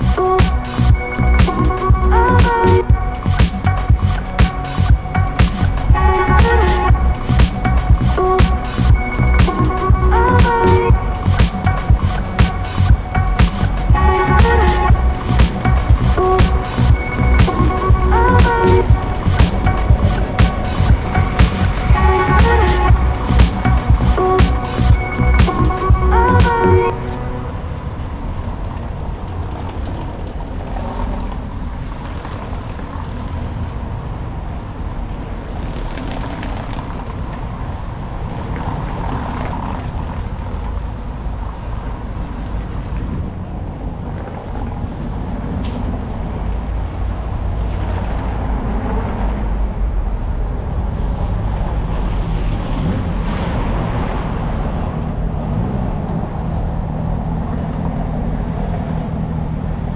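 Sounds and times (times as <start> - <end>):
road traffic rumble: 0.0 - 59.9
vehicles passing loudly: 0.0 - 59.9.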